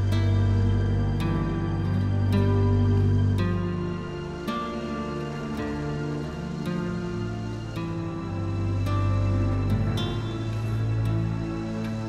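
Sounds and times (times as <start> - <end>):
slow sustained music chords: 0.0 - 12.0.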